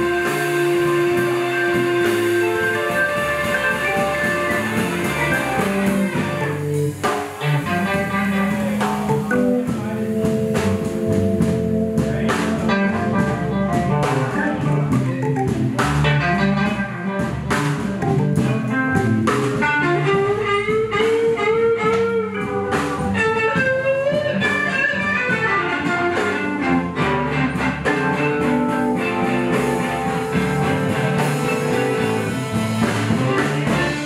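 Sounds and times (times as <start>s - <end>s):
blues band playing live: 0.0s - 34.0s
electric guitar bending notes: 0.0s - 34.0s.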